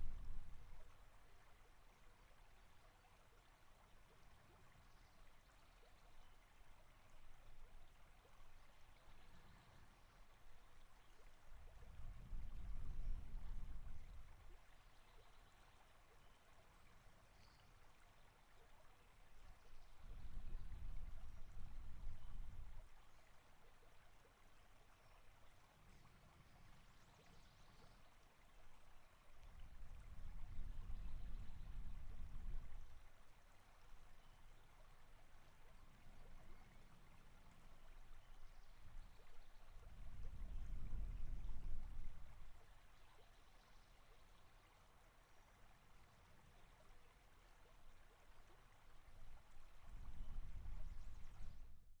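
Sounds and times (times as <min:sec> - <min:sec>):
soft even hiss: 0:00.0 - 0:51.8.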